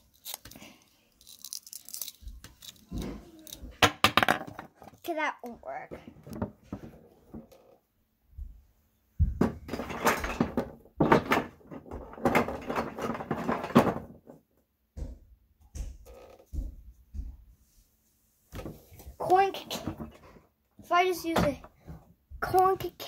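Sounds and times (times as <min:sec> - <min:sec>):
objects rustling and clattering: 0:00.0 - 0:05.1, 0:05.9 - 0:07.8, 0:09.2 - 0:22.2.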